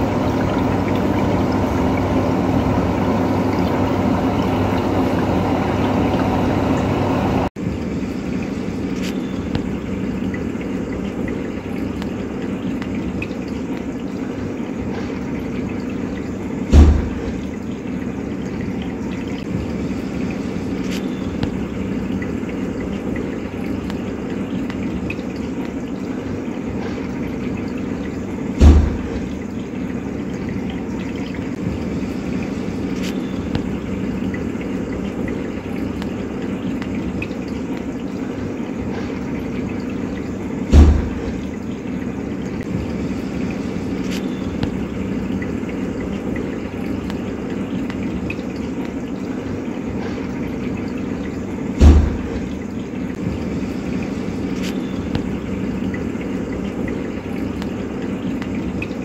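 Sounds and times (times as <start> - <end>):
underwater watery rush: 0.0 - 59.0.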